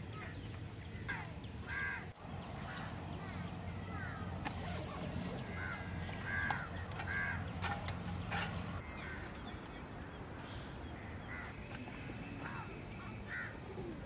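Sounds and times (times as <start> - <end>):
bird calling: 0.0 - 14.0.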